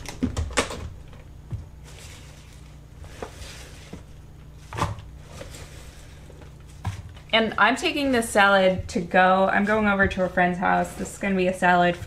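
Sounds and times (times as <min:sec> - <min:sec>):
salad greens rustling: 0:01.7 - 0:11.5.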